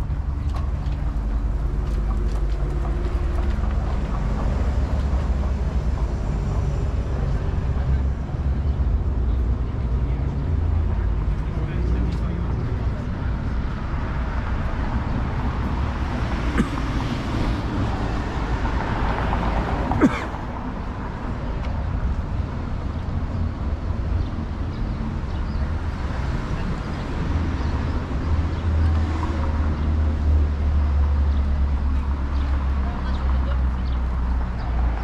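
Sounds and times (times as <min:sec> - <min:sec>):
heavy vehicle rumble: 0:00.0 - 0:35.0
passing vehicles: 0:00.0 - 0:35.0.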